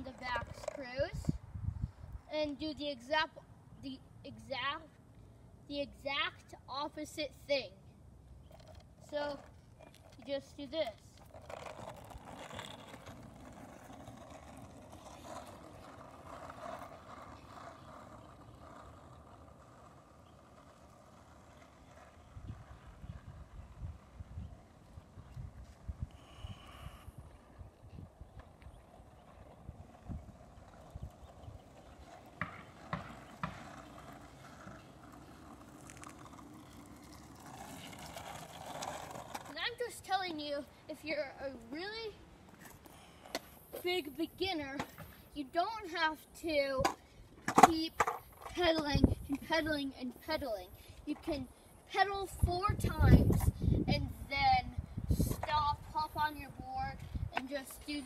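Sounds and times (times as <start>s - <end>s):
skateboard wheels rolling on asphalt: 0.0s - 58.0s.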